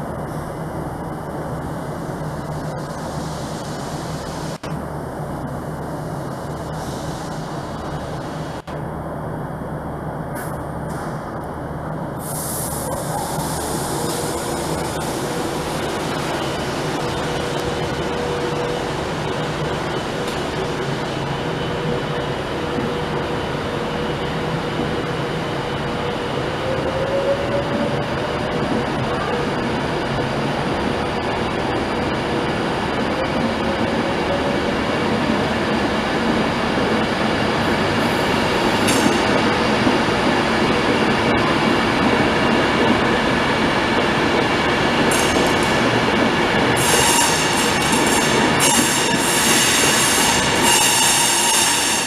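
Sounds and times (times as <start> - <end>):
train wheels on rail: 0.0 - 8.9, 9.6 - 52.0.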